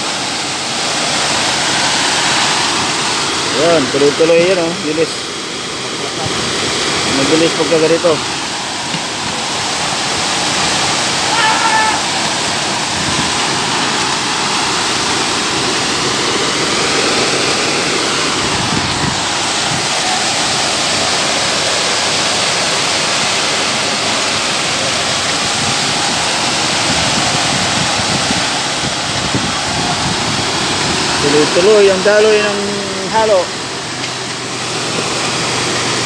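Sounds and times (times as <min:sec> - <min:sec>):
wet concrete pouring: 0:00.0 - 0:36.0
engine running: 0:00.1 - 0:36.0.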